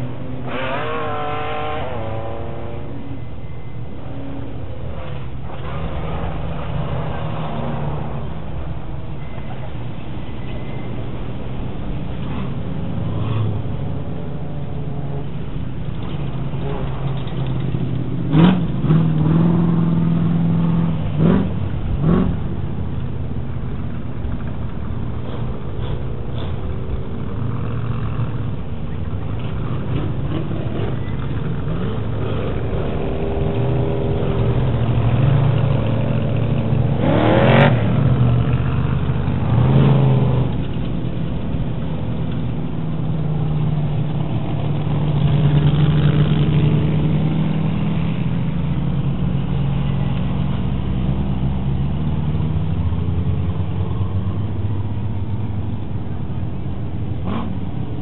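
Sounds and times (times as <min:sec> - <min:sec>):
race truck engines revving: 0:00.0 - 0:58.0.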